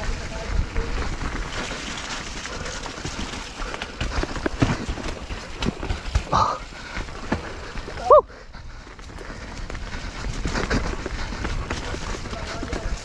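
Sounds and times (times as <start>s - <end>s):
bike knocking and rattling: 0.0s - 8.1s, 8.8s - 13.0s
bike tyres over dirt and rocks: 0.0s - 13.0s.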